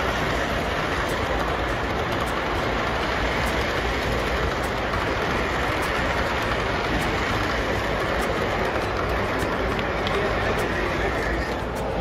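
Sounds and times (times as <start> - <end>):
model train wheels rumbling on rails: 0.0 - 12.0.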